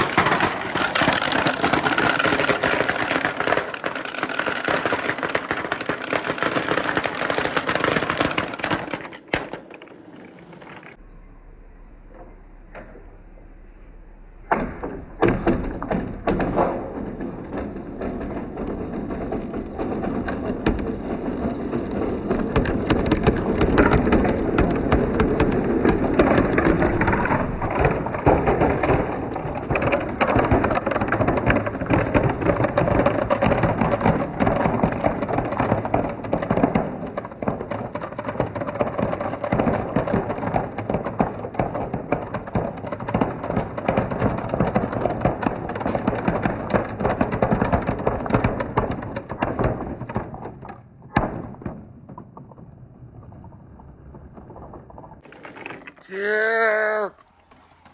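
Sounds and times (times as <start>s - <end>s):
marbles clattering down a run: 0.0s - 11.0s, 15.4s - 57.9s.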